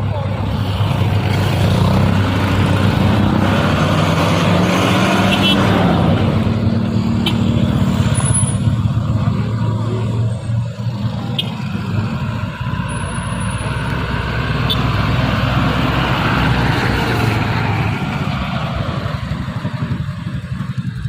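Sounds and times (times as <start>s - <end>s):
truck diesel engine labouring: 0.0s - 21.0s.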